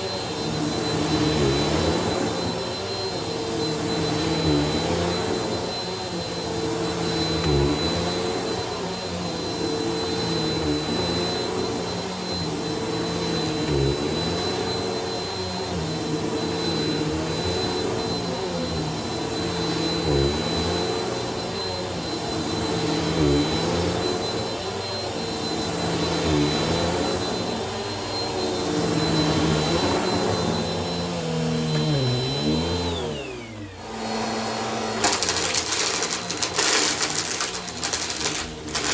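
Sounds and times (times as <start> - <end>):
vacuum cleaner on a rug: 0.0 - 38.9.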